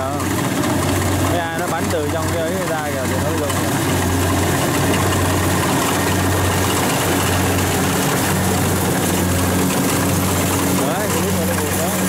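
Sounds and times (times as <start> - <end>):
diesel engine drone: 0.0 - 12.0
machinery rushing noise: 0.0 - 12.0.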